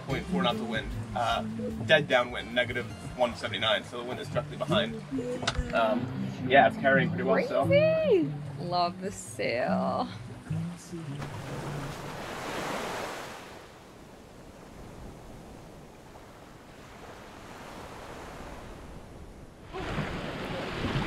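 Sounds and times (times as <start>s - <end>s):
water rushing along a hull: 0.0s - 9.5s, 10.2s - 21.0s.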